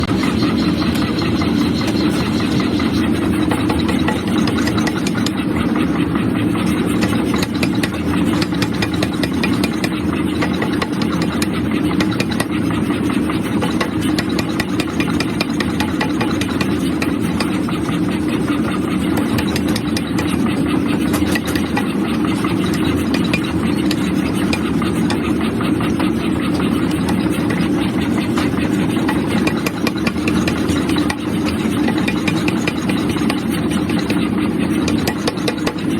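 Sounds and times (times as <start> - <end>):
machinery drone: 0.0 - 35.9
rapid mechanical clatter: 0.0 - 35.9.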